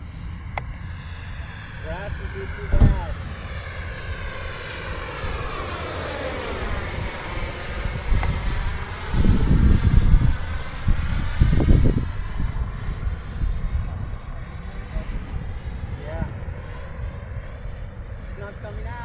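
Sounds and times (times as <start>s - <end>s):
heavy low rumbles: 0.0s - 5.4s, 7.9s - 19.0s
electric ducted fan whine: 0.0s - 19.0s.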